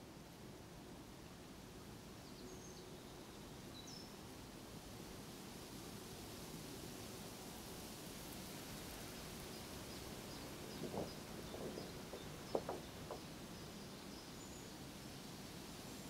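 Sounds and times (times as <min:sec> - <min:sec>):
low outdoor hiss: 0:00.0 - 0:16.0.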